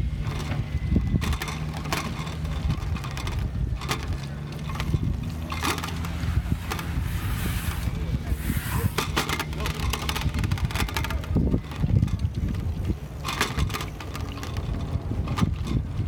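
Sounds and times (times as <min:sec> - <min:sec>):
knocks and rattles: 0:00.0 - 0:16.0
wind and rolling rumble: 0:00.0 - 0:16.0.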